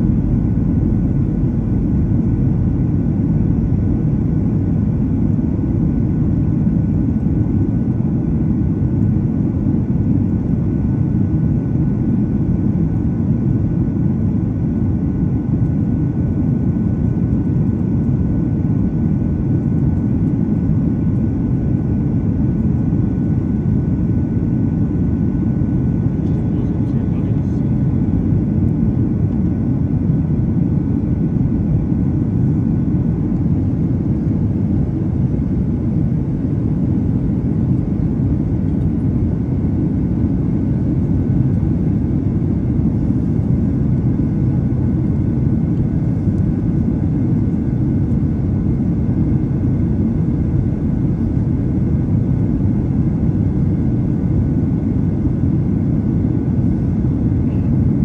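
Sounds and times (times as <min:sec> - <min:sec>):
jet engines roaring in cabin: 0:00.0 - 0:58.0.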